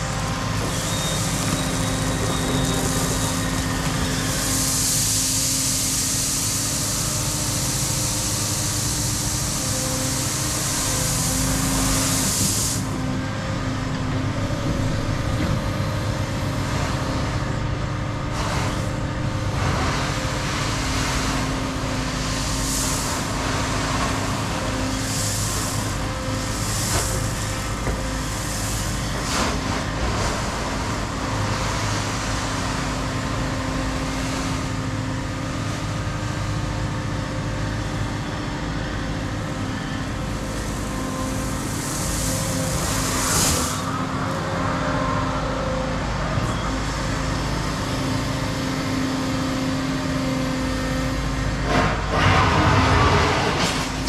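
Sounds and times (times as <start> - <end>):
hydraulic whine: 0.0 - 16.7, 17.3 - 54.0
excavator diesel engine running: 0.0 - 54.0.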